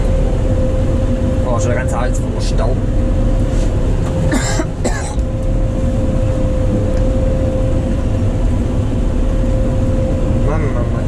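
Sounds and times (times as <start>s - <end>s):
combine harvester rumbling: 0.0s - 11.0s
thin steady whine: 0.0s - 11.0s.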